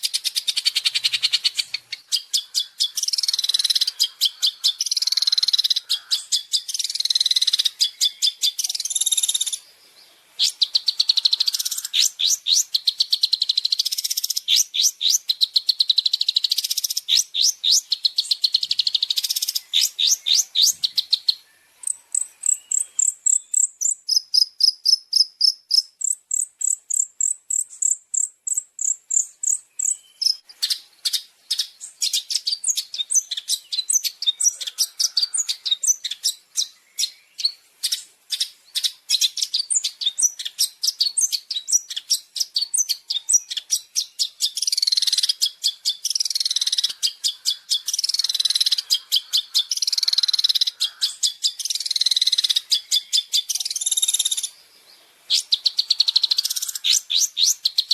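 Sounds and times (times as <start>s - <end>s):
bird singing high-pitched song: 0.0s - 57.9s.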